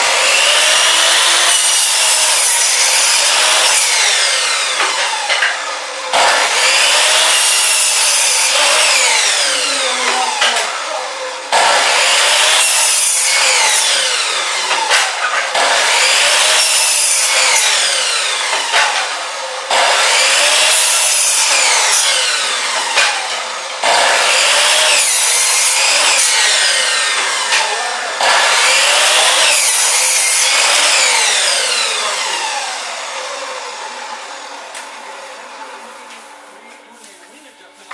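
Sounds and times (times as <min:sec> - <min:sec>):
electric chop saw cutting wood: 0:00.0 - 0:37.0.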